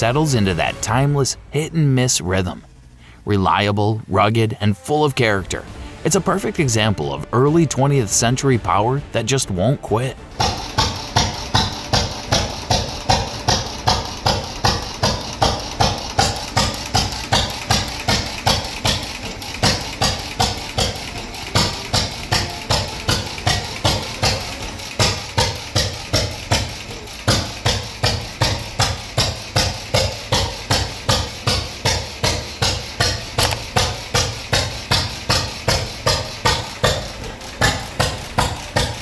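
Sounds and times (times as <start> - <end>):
engine chugging: 0.0 - 39.0.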